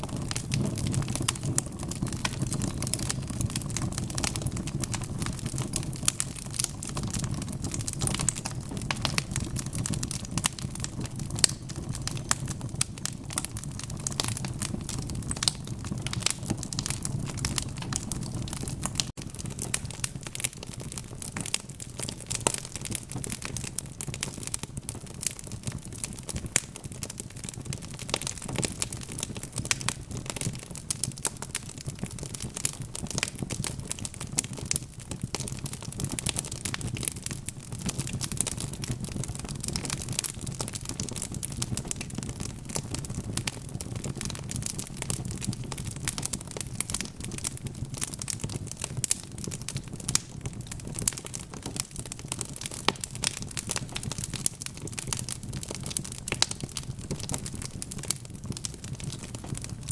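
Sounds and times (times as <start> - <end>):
burning logs rumbling: 0.0 - 59.9
wood fire crackling: 0.0 - 59.9.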